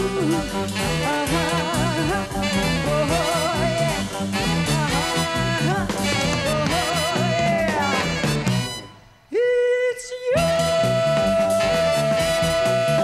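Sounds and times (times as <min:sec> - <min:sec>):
woman singing: 0:00.0 - 0:08.2, 0:09.3 - 0:13.0
big band with saxophones and brass: 0:00.0 - 0:09.2, 0:10.4 - 0:13.0.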